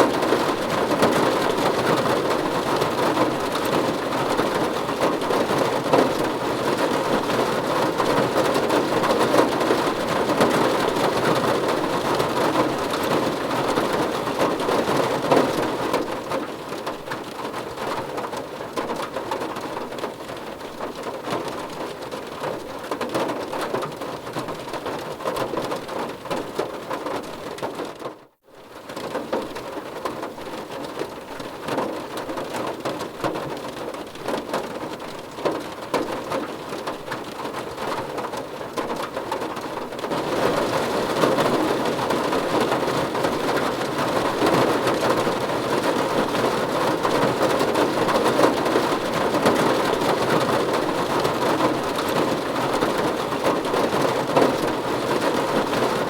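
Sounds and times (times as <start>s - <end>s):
rain on a car roof: 0.0s - 56.0s.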